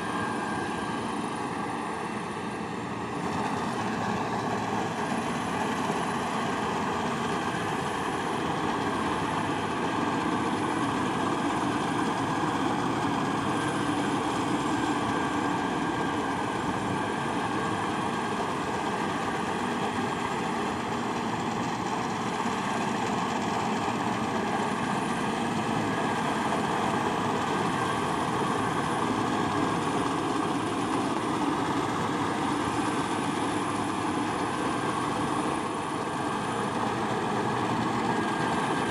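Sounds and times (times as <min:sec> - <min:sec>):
farm machinery engine running: 0:00.0 - 0:38.9.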